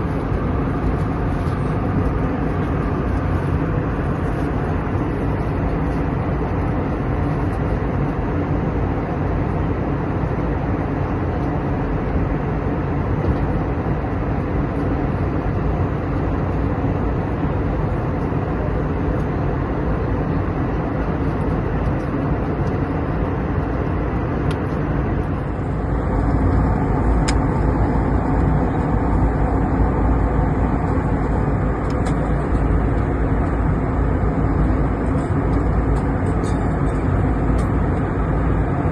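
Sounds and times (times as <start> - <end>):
jet airliner cabin noise: 0.0 - 38.9.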